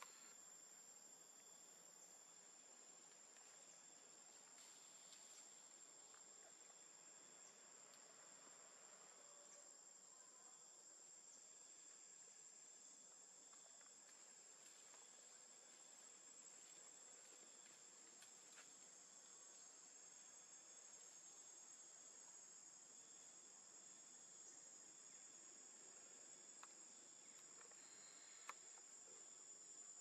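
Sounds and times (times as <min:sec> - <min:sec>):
crickets droning: 0:00.0 - 0:30.0.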